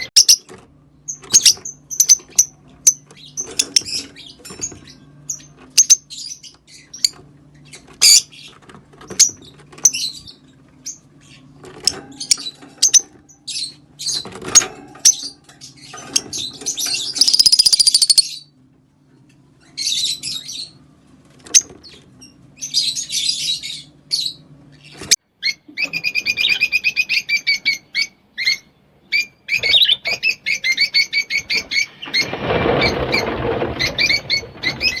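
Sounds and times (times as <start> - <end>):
lovebirds chirping and squawking: 0.0 - 18.6, 19.5 - 35.0.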